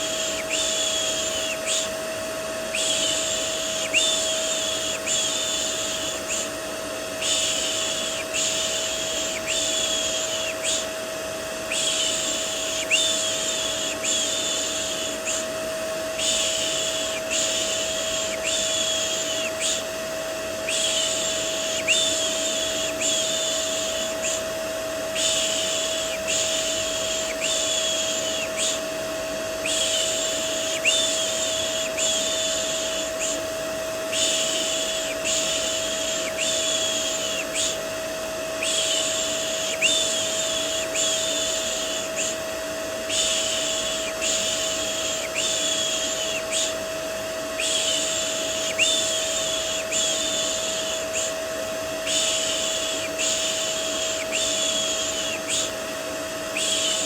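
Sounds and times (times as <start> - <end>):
vacuum cleaner motor hum: 0.0 - 57.0.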